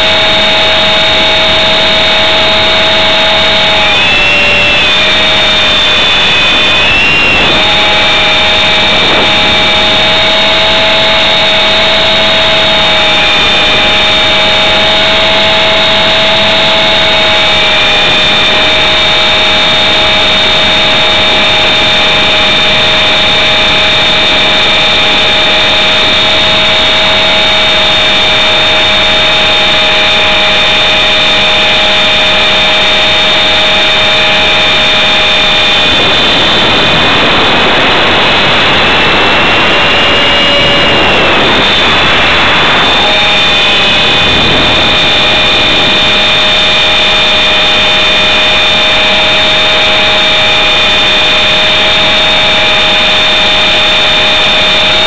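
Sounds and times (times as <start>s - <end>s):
rc helicopter motor whine: 0.0s - 55.0s
rotor and air rushing: 0.0s - 55.0s.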